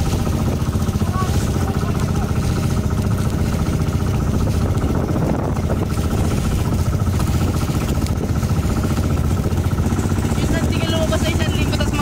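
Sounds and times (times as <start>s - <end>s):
boat engine pulsing: 0.0s - 12.0s.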